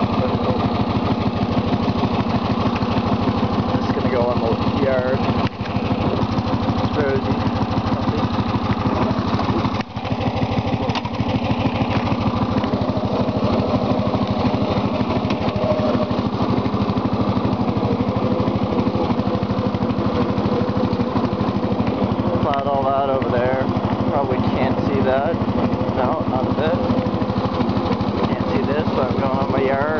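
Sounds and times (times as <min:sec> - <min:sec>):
lawn tractor engine running: 0:00.0 - 0:29.9.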